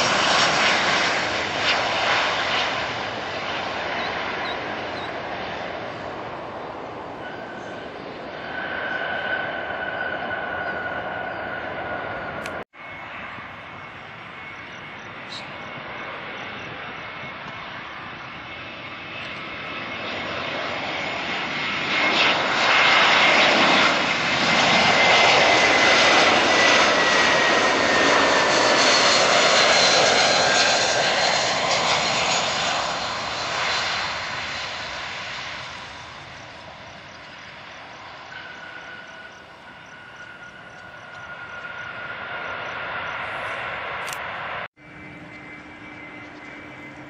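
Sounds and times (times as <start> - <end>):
jet airliner engine noise: 0.0 - 47.0.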